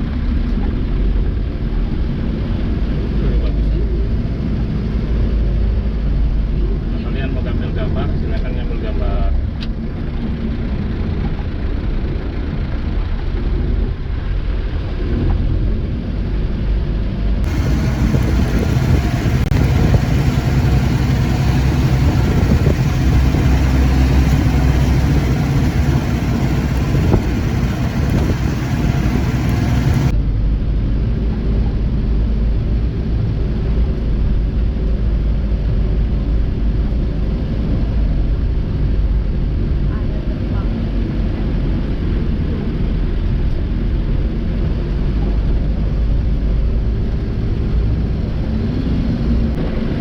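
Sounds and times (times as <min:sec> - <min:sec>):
engine and road rumble: 0:00.0 - 0:50.0.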